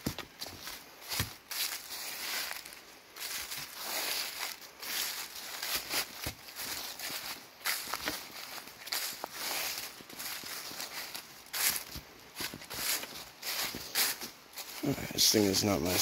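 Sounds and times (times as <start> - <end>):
crackles underfoot: 0.0 - 16.0
footsteps on forest ground: 0.0 - 16.0.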